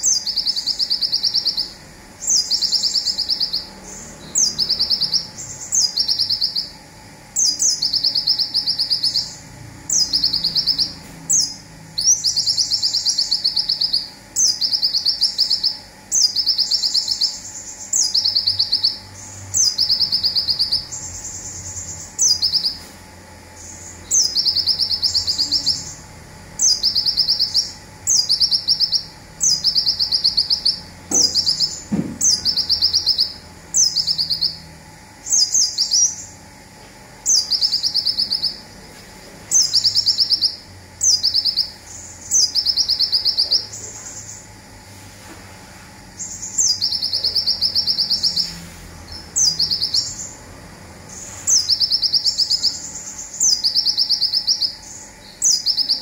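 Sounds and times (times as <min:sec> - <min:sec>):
sunbird singing buzzy trill: 0:00.0 - 0:56.0.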